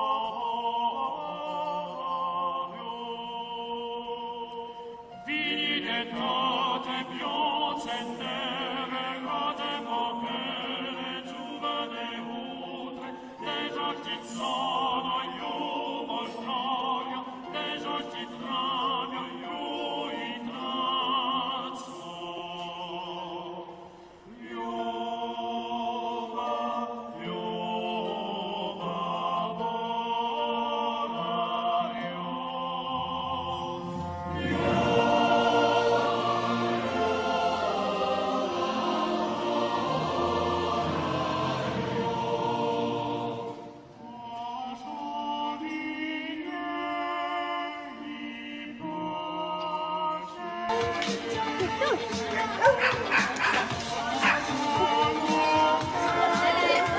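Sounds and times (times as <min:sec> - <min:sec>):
classical choral singing: 0:00.0 - 0:56.9.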